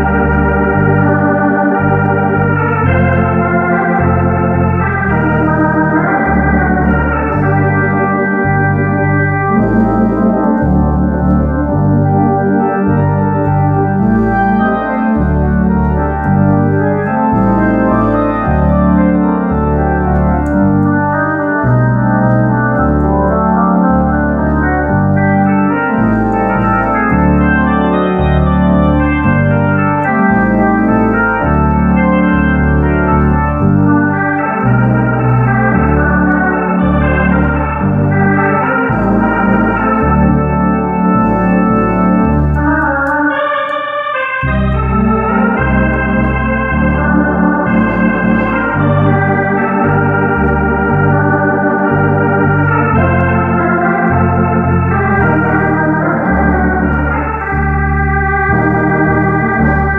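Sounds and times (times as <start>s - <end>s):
organ bass line: 0.0s - 59.9s
organ melody over chords: 0.0s - 59.9s.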